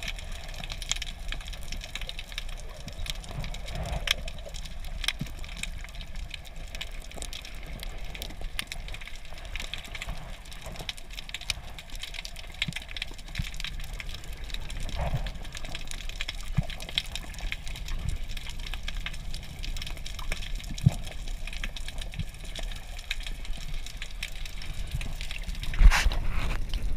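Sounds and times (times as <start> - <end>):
fine crackling clicks: 0.0 - 26.9
low water rumble: 0.0 - 26.9.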